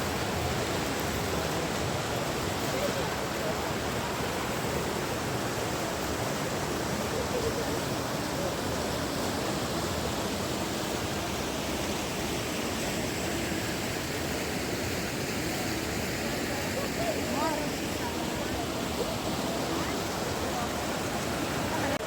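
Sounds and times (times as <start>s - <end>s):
faint distant voices: 0.0s - 22.0s
flowing water rushing: 0.0s - 22.0s.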